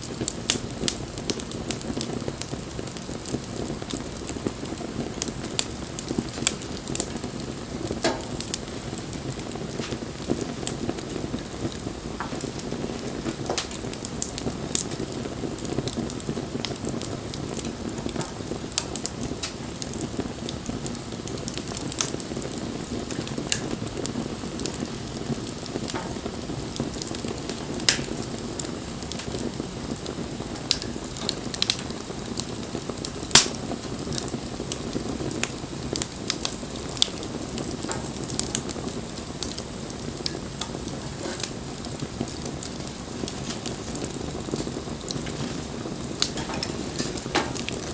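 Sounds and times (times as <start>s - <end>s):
flame rushing: 0.0s - 47.9s
wood crackling and popping: 0.0s - 47.9s.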